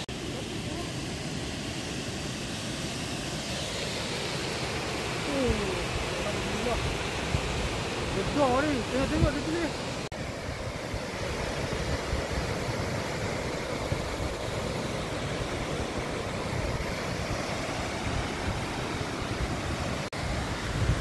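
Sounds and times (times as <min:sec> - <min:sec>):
waterfall rushing over rocks: 0:00.0 - 0:21.0.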